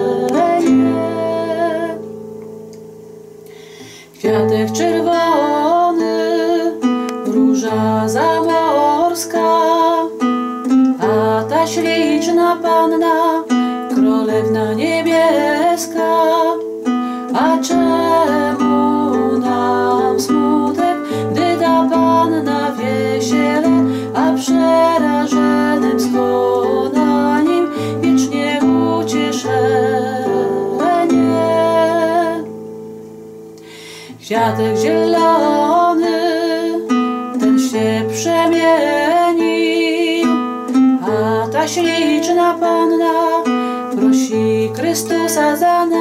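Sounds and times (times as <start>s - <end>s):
woman singing: 0.0s - 2.2s, 3.8s - 32.6s, 33.7s - 46.0s
acoustic guitar picked melody: 0.0s - 46.0s.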